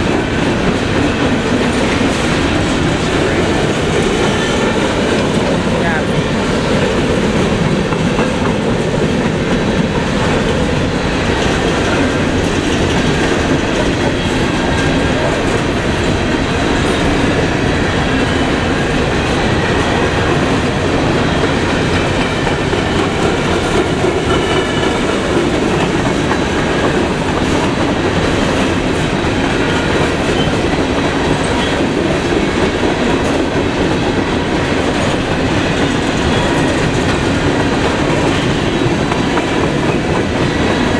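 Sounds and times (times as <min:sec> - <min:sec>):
clickety-clack over rail joints: 0:00.0 - 0:40.9
freight train wheels rumbling: 0:00.0 - 0:40.9.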